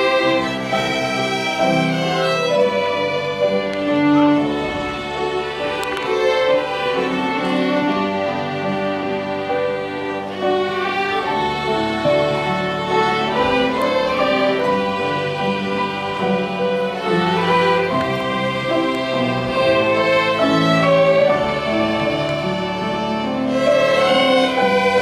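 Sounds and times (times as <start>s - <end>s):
sustained overlapping notes: 0.0s - 25.0s
violin melody: 0.0s - 25.0s.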